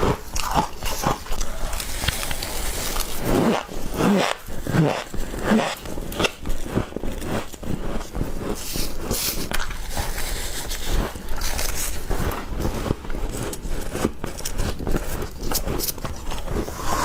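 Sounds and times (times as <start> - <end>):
frost crunching being chewed: 0.0 - 16.8.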